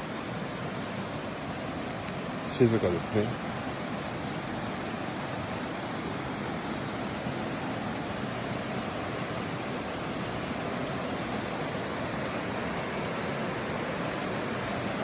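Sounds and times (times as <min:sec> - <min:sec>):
mountain river flowing: 0:00.0 - 0:15.0.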